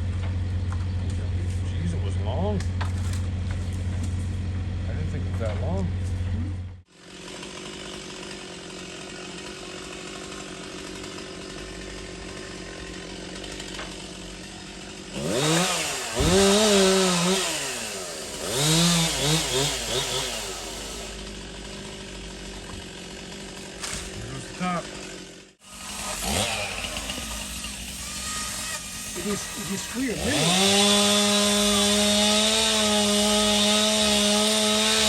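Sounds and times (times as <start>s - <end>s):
chainsaw idling and revving: 0.0s - 35.0s.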